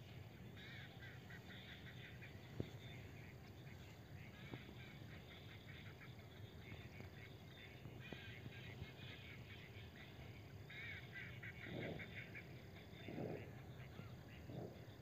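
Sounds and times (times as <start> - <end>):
flock of ducks calling: 0.6 - 15.0.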